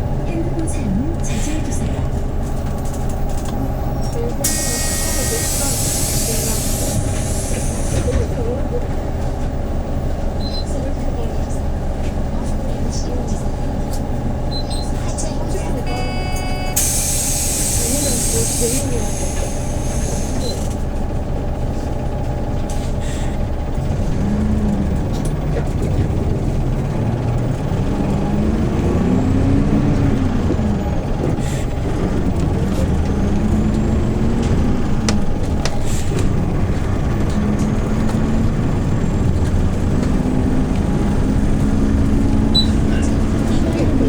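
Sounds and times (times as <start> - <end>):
bus engine running: 0.0 - 44.0.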